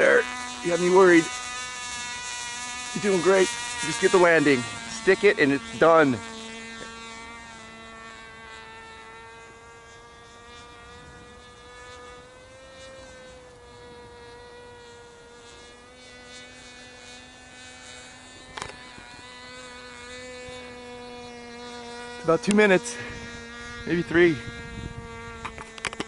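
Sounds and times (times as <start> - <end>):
model airplane motor buzzing: 0.0 - 26.0.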